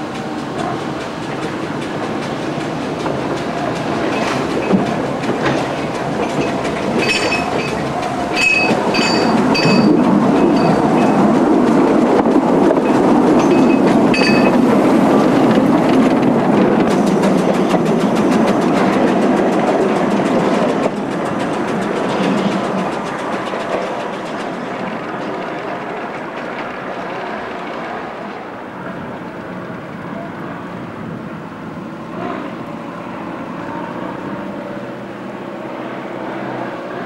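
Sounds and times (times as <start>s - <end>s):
steam locomotive running slowly: 0.0s - 37.0s.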